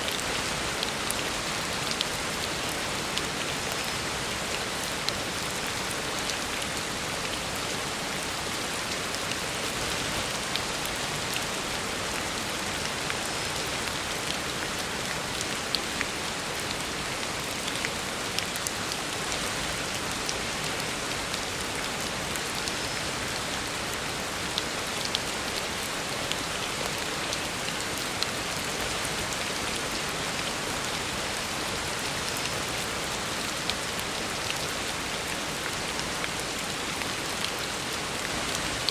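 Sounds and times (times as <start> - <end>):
heavy rain on a road: 0.0 - 38.9.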